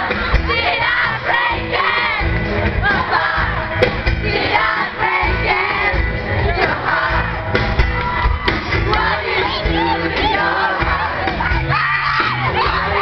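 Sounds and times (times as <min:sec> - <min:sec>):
crowd singing and shouting: 0:00.0 - 0:13.0
live band with sung melody: 0:00.0 - 0:13.0.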